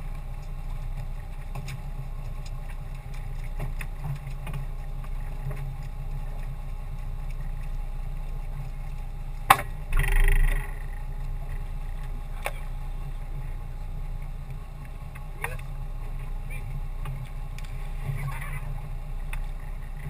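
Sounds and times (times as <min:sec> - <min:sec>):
boat engine low rumble: 0:00.0 - 0:20.0.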